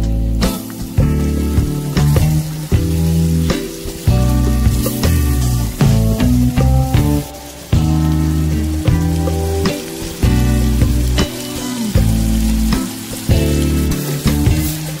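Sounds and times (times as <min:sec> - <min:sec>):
background music with bass: 0:00.0 - 0:15.0
chicken sizzling in hot oil: 0:00.0 - 0:15.0.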